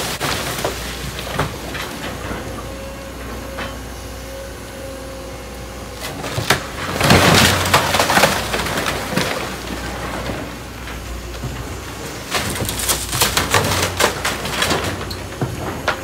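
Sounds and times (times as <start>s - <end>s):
wood and debris crashing down: 0.0s - 3.7s, 6.0s - 16.0s
demolition machinery humming: 0.0s - 16.0s.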